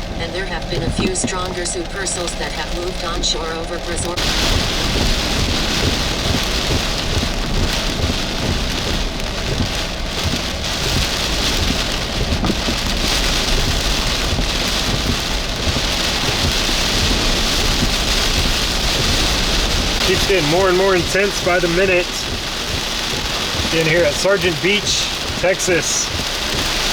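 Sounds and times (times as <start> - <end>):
heavy wind-driven rain: 0.0 - 26.9
wind buffeting microphone: 0.0 - 26.9.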